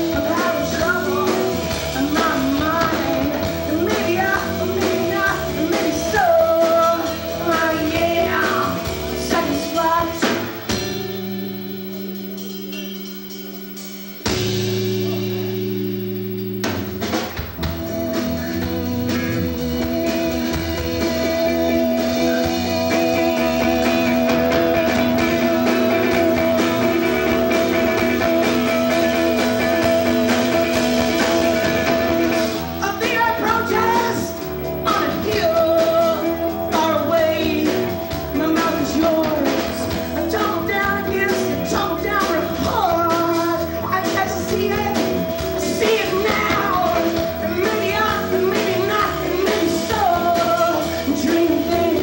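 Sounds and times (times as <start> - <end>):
bass guitar: 0.0 - 52.0
distorted electric guitar: 0.0 - 52.0
drums: 0.0 - 52.0.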